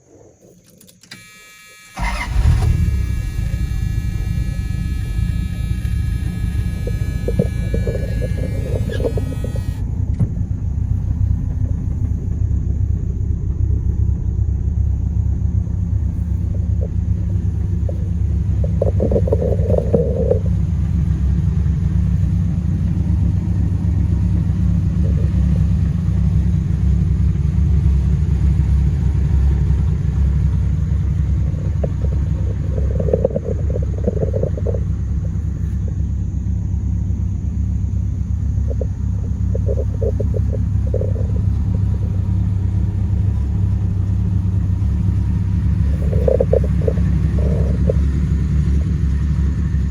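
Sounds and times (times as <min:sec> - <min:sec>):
pickup engine rumbling: 0:01.7 - 0:49.9.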